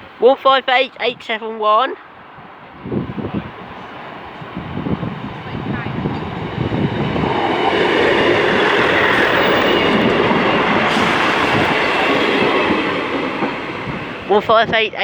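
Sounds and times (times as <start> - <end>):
train passing: 2.0 - 15.0.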